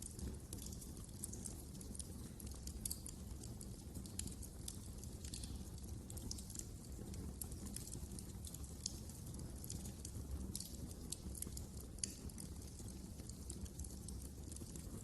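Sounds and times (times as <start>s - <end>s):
fireplace fire crackling: 0.0s - 15.0s
low rumble of fire: 0.0s - 15.0s.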